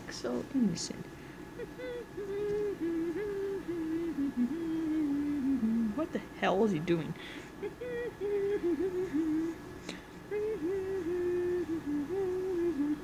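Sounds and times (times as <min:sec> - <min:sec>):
person humming: 0:01.6 - 0:06.3, 0:07.2 - 0:13.0.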